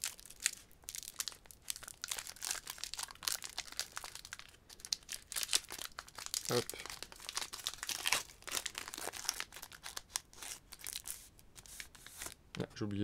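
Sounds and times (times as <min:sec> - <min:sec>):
foil wrapper crinkling: 0:00.0 - 0:12.4.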